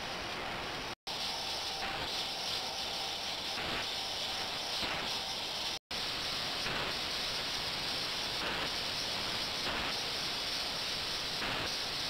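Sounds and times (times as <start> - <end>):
ultrasonic cleaner water hiss: 0.0 - 12.0.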